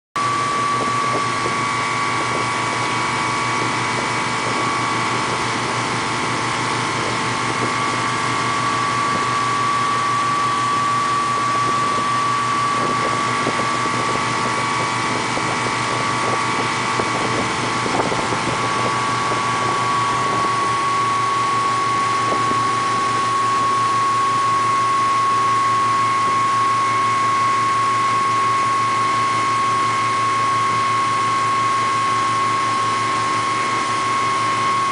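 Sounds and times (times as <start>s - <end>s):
motorboat engine running: 0.2s - 34.9s.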